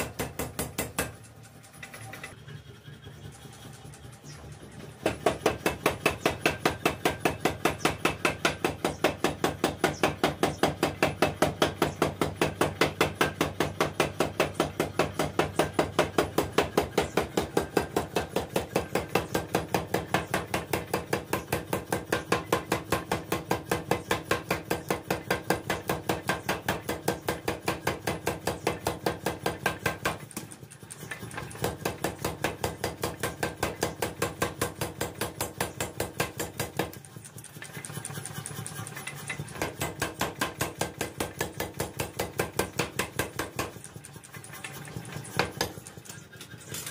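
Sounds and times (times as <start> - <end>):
power hammer pounding steel: 0.0 - 2.3, 4.2 - 46.9.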